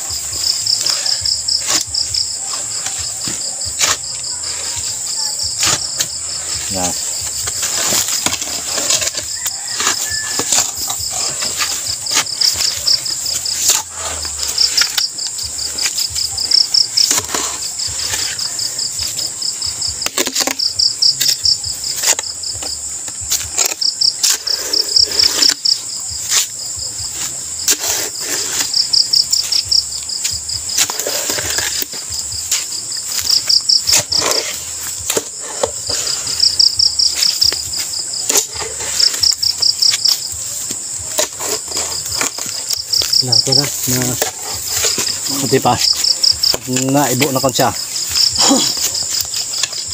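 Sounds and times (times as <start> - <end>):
crickets trilling: 0.0 - 49.9
high insect hum: 0.0 - 49.9
metal digging bar in soil: 0.0 - 49.9.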